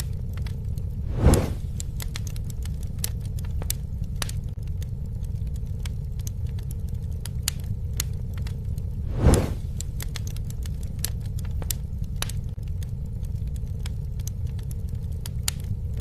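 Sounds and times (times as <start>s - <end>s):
rush of flame: 0.0s - 14.7s
campfire crackling and popping: 0.0s - 16.0s.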